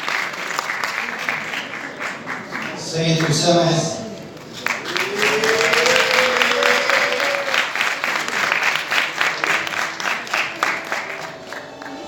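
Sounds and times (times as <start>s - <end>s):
audience applauding: 0.0s - 3.5s, 4.6s - 12.0s.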